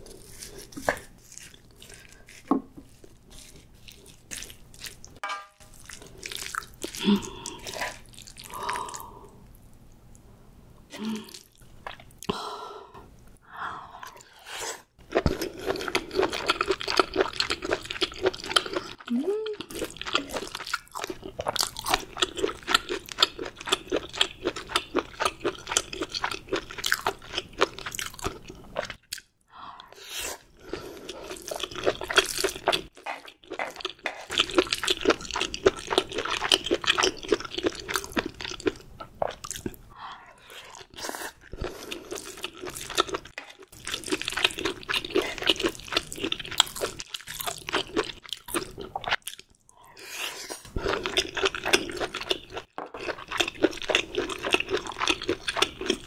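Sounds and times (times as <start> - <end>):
person chewing food: 0.0 - 10.2, 11.1 - 12.4, 15.0 - 56.0.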